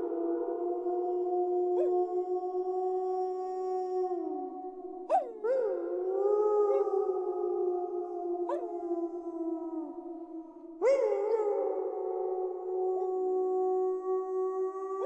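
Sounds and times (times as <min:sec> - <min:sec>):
wolves howling in chorus: 0:00.0 - 0:15.0.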